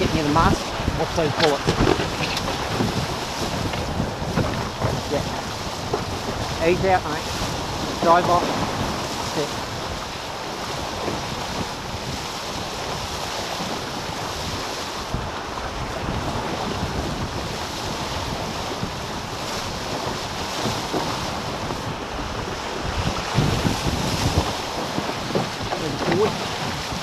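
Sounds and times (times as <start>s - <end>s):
water rushing along hulls: 0.0s - 27.0s
wind buffeting microphone: 0.0s - 27.0s.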